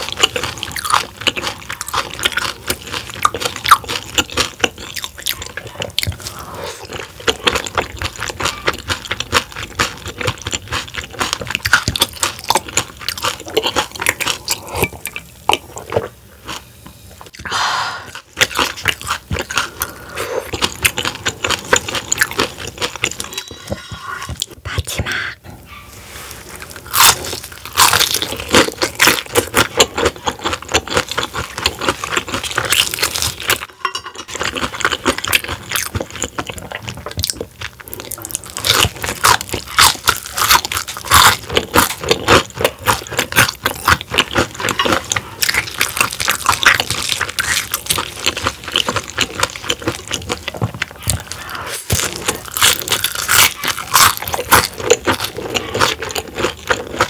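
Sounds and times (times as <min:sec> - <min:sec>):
crunching and chewing fried food: 0:00.0 - 0:24.9, 0:26.2 - 0:57.0.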